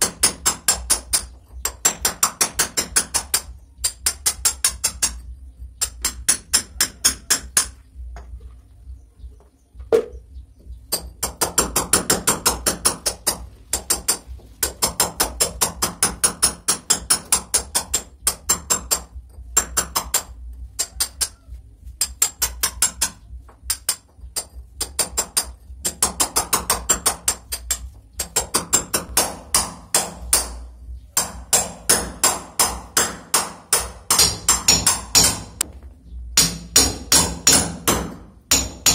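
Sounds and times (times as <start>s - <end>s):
hammer striking chisel on brick: 0.0s - 8.3s, 10.9s - 35.7s, 36.4s - 38.9s.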